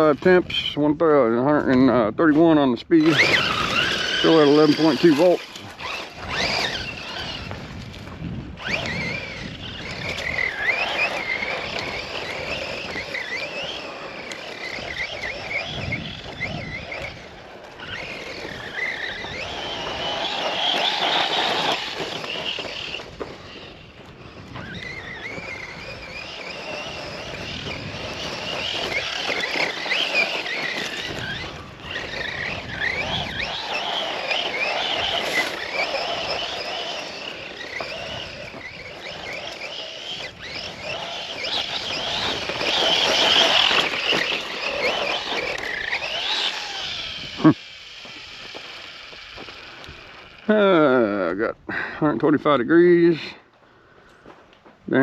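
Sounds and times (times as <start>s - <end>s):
electric motor whining: 0.0s - 51.6s
tyres and wind rushing: 0.0s - 55.0s.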